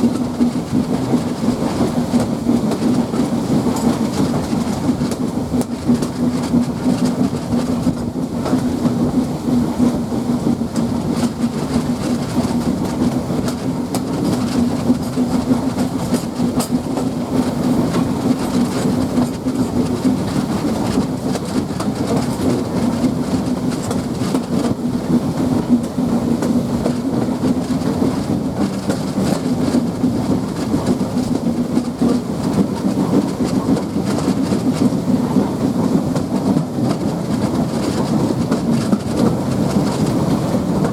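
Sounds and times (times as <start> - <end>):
clickety-clack over rail joints: 0.0 - 40.9
train wheels rumbling on rails: 0.0 - 40.9.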